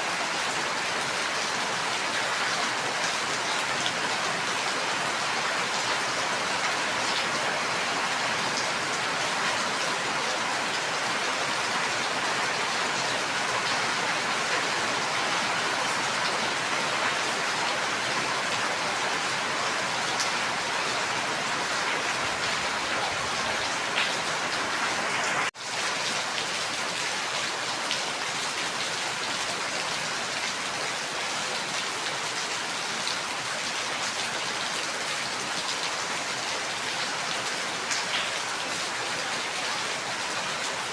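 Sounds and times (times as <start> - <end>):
steady rain with ticking drops: 0.0 - 40.9.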